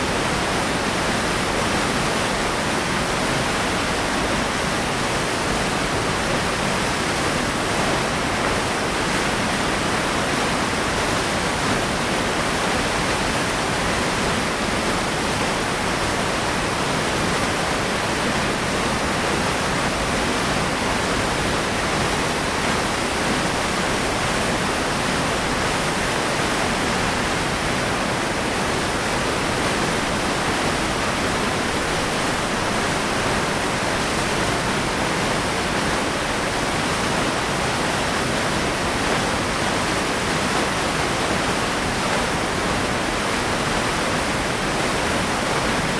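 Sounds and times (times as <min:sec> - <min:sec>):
waterfall gushing: 0:00.0 - 0:45.9.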